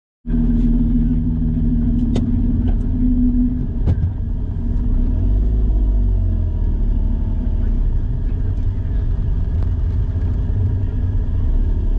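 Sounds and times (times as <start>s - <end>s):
car engine idling: 0.3s - 11.9s.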